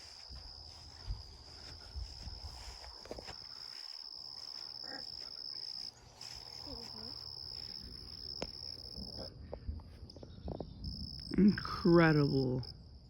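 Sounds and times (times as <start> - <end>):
insects trilling: 0.0 - 9.3, 10.1 - 13.0.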